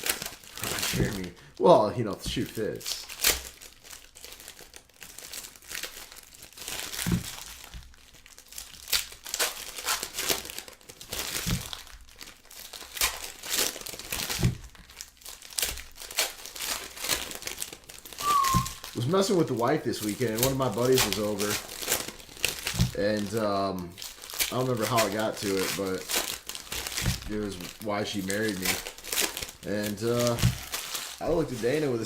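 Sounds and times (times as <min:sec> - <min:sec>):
card pack wrappers crinkling: 0:00.0 - 0:32.0.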